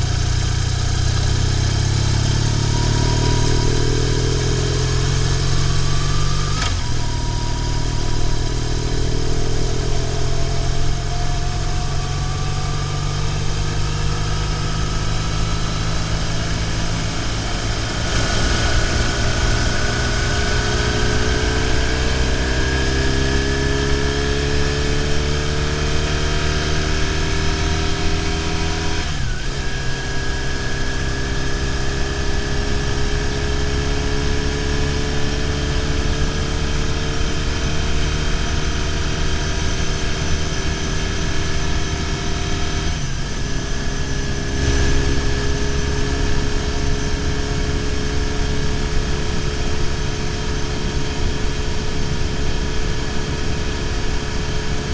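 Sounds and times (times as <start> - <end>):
motorcycle engine running: 0.0 - 54.9
wind and road noise: 0.0 - 54.9.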